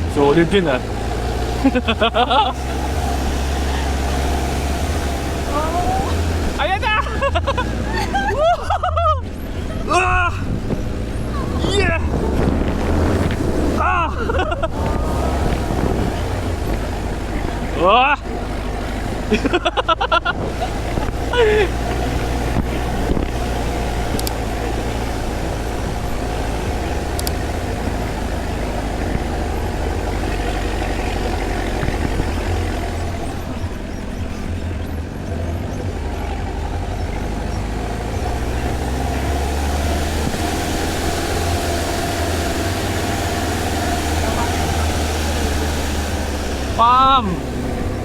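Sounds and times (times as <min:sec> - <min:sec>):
engine running under load: 0:00.0 - 0:48.0.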